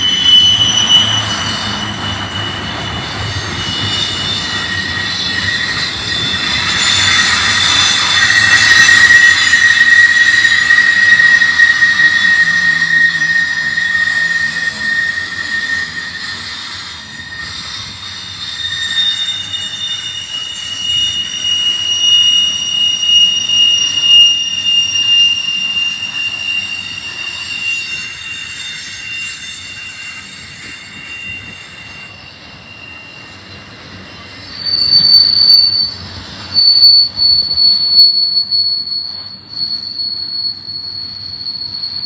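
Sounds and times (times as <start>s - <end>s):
rumble of freight cars: 0.0s - 42.0s
train wheels squealing on rails: 0.0s - 42.0s.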